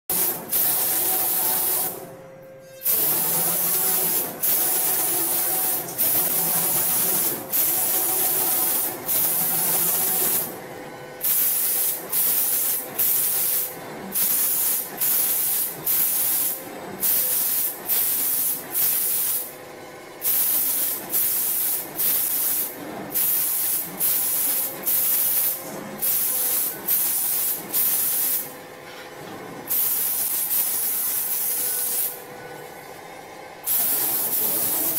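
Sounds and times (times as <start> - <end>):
spray gun hissing in bursts: 0.1 - 2.0, 2.8 - 10.5, 11.2 - 19.5, 20.2 - 28.5, 29.7 - 32.2, 33.6 - 34.9
faint machine hum: 0.1 - 34.9.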